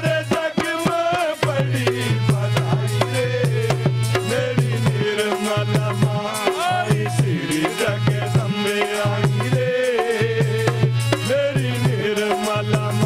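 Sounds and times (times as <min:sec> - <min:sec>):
devotional song melody: 0:00.0 - 0:13.0
tabla rhythm: 0:00.0 - 0:13.0.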